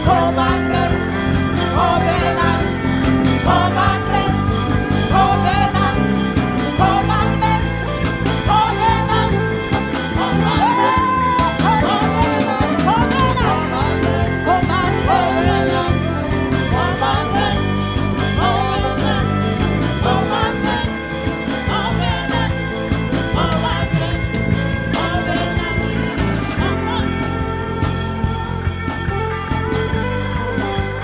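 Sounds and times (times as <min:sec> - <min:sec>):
worship band music: 0:00.0 - 0:31.0.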